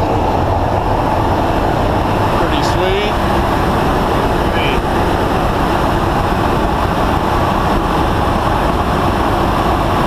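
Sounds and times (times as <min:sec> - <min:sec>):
airflow and jet engine noise: 0:00.0 - 0:10.0.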